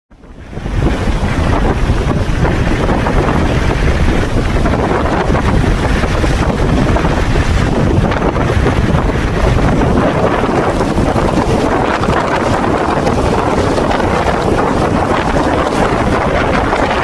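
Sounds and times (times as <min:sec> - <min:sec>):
wind buffeting microphone: 0:00.1 - 0:17.0.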